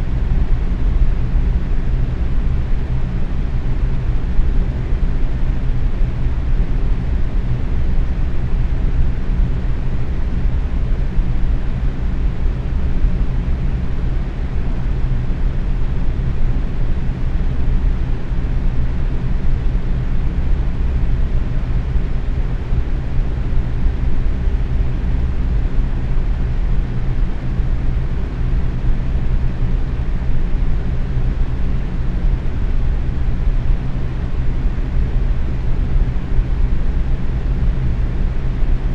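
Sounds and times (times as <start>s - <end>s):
faint motor hum: 0.0s - 38.9s
fan rushing air: 0.0s - 38.9s.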